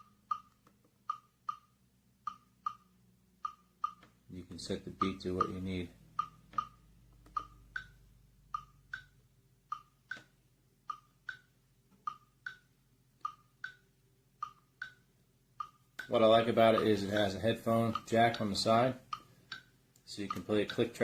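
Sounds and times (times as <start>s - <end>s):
metronome clicking: 0.0s - 21.0s.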